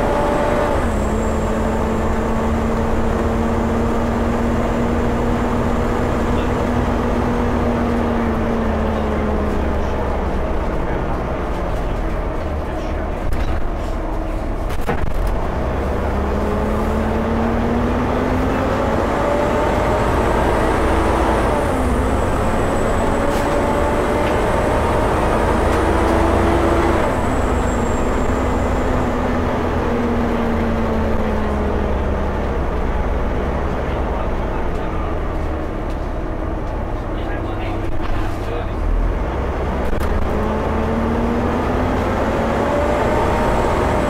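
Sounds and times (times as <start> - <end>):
bus diesel engine: 0.0 - 44.0.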